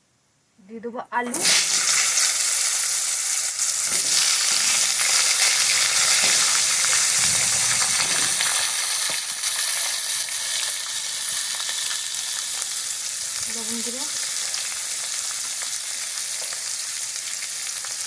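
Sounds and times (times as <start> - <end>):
potatoes sizzling in hot oil: 1.3 - 18.0.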